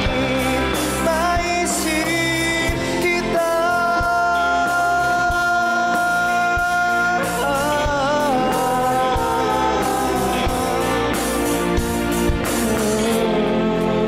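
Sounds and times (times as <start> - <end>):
pop ballad with band: 0.0 - 14.0
steady drum beat: 0.0 - 14.0.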